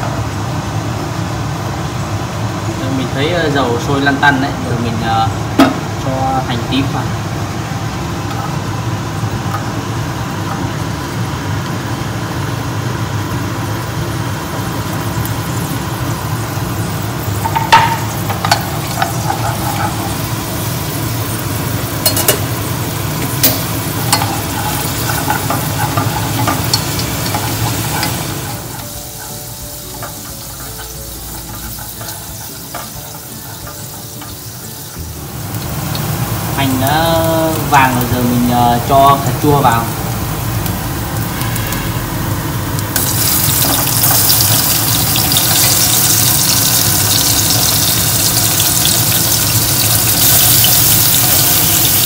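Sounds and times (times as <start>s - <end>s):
shallots sizzling in oil: 6.8s - 52.0s.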